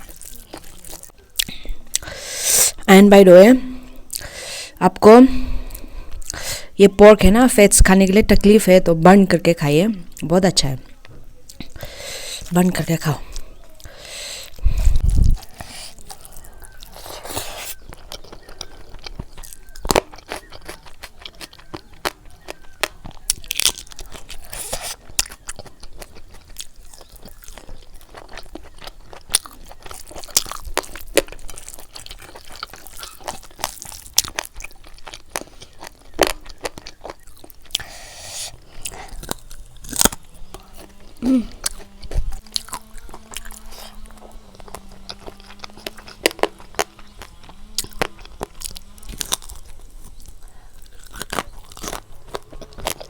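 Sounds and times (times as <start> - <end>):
chewing and crunching food: 0.0 - 53.0
faint low hum: 0.0 - 53.0.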